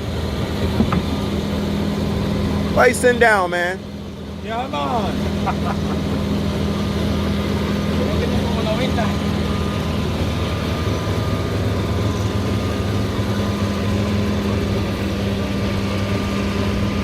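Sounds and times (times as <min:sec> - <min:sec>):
faint high whine: 0:00.0 - 0:17.0
truck engine running: 0:00.0 - 0:17.0.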